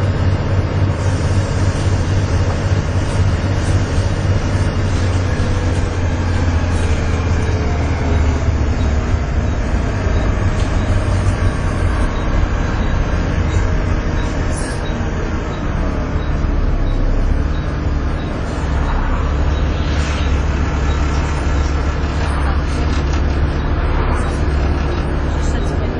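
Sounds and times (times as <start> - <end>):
bus diesel engine droning: 0.0 - 25.9.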